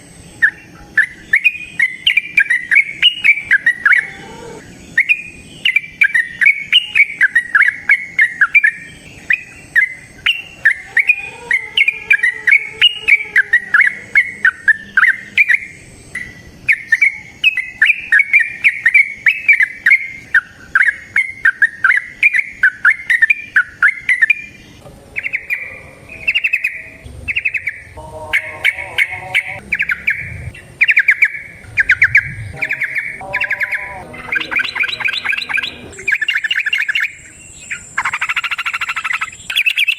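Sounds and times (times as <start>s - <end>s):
bird singing bubbling song: 0.0s - 39.9s.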